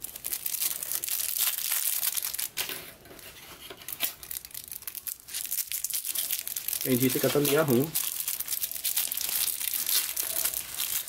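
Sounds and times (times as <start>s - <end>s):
plastic wrapper crinkling and tearing: 0.0s - 11.0s.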